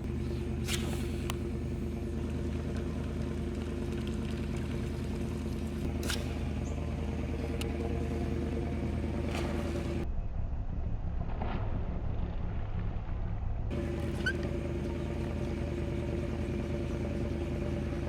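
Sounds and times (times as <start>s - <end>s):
boat motor humming: 0.0s - 10.3s, 12.3s - 18.0s.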